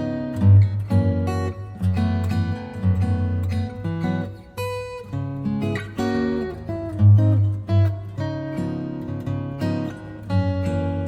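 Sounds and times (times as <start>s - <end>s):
acoustic guitar picking: 0.0s - 11.0s.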